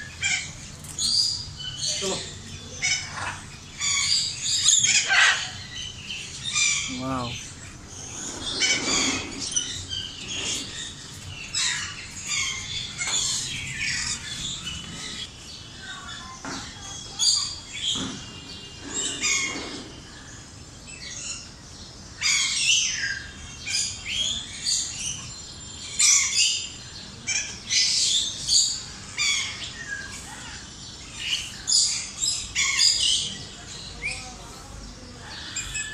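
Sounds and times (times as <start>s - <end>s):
birds chirping and squawking: 0.0s - 35.9s.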